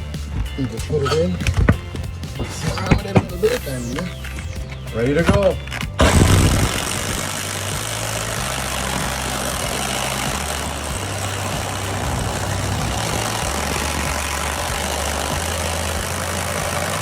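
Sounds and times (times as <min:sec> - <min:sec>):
drill hole saw grinding masonry: 0:00.1 - 0:17.0.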